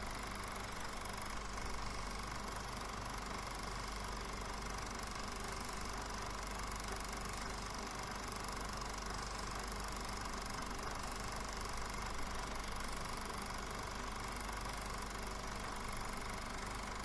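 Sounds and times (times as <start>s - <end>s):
film projector running: 0.0s - 17.0s.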